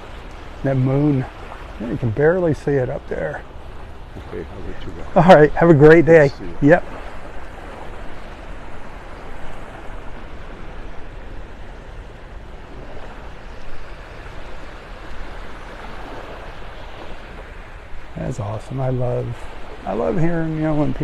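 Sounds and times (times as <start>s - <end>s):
small waves washing on beach: 0.0s - 21.0s
wind rumble on microphone: 0.0s - 21.0s.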